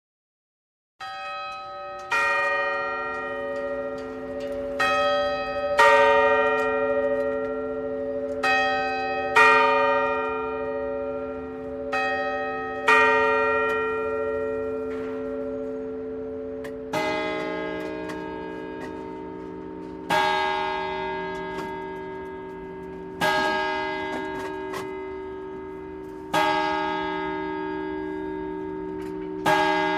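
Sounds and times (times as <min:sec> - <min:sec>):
clock chime bells: 0:01.0 - 0:29.9.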